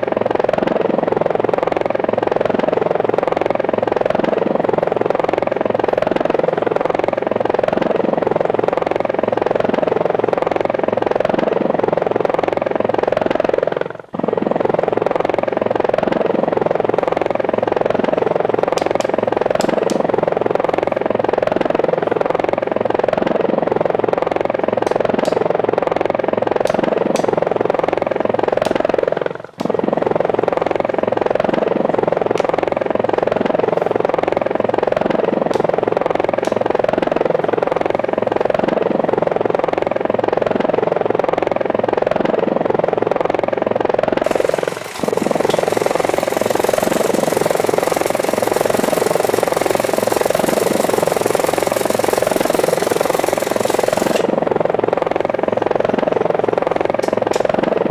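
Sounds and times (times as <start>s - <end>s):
drone rotors whirring: 0.0s - 39.8s, 44.1s - 57.9s.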